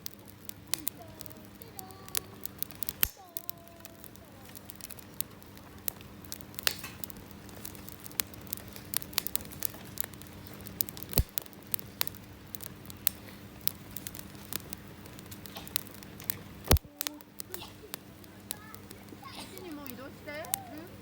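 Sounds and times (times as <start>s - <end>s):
campfire crackling and popping: 0.0s - 21.0s
low fire hiss: 0.0s - 21.0s.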